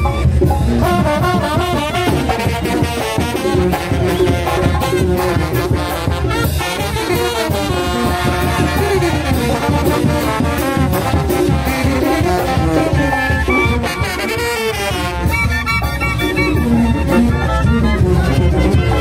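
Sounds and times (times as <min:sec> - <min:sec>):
brass band playing lively tune: 0:00.0 - 0:19.0.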